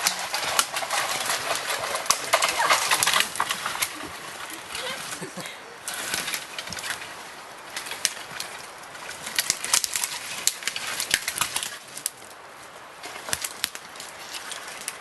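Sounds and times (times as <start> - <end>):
rustling with sharp clicks: 0.0 - 15.0.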